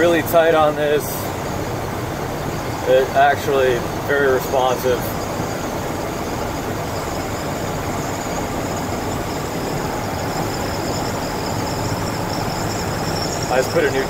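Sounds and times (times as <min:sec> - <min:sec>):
pickup engine running: 0:00.0 - 0:14.0
road and tyre noise: 0:00.0 - 0:14.0.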